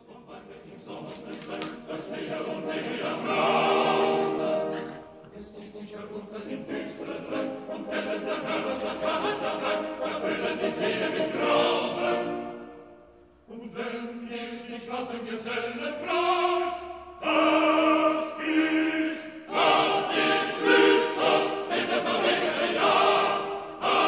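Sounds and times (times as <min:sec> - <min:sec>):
operatic choral singing: 0:00.0 - 0:24.0.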